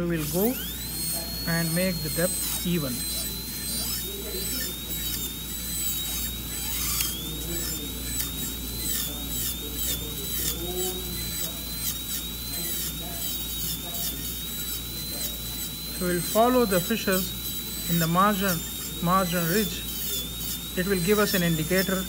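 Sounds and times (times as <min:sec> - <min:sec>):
dental drill whining: 0:00.0 - 0:22.0.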